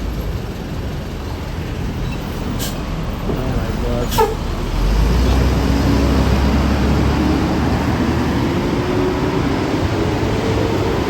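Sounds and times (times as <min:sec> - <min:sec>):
road noise: 0:00.0 - 0:11.0
heavy vehicle accelerating past: 0:01.8 - 0:11.0.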